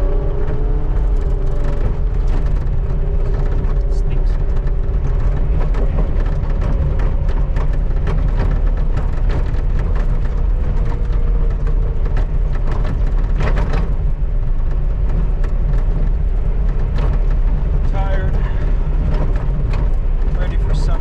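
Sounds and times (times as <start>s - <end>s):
skid steer engine rumbling: 0.0s - 21.0s.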